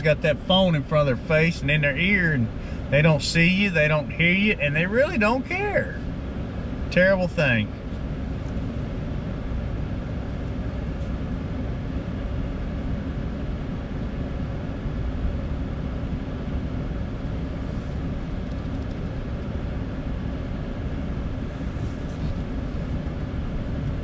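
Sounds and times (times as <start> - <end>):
vehicle engine and tyres rumbling: 0.0 - 24.0.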